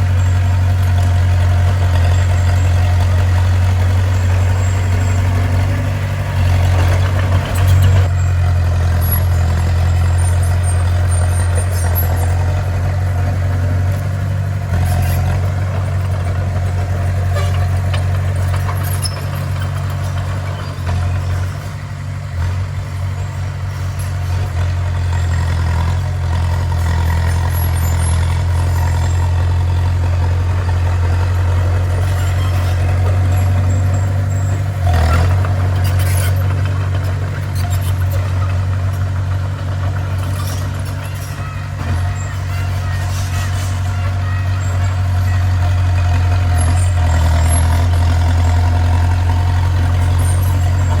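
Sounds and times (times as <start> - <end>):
bulldozer diesel engine droning: 0.0 - 51.0.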